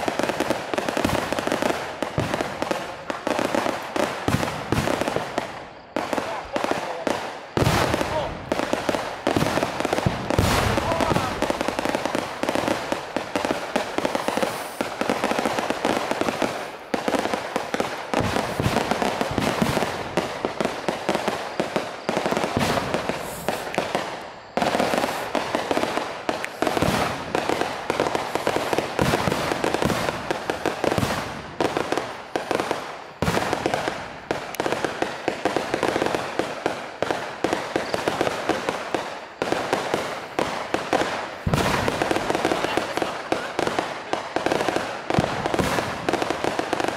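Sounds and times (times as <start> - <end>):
firecrackers crackling bangs: 0.0 - 46.9.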